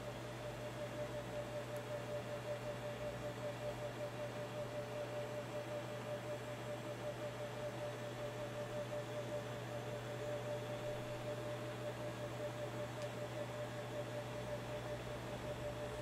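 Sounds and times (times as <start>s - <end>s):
background hum and hiss: 0.0s - 16.0s.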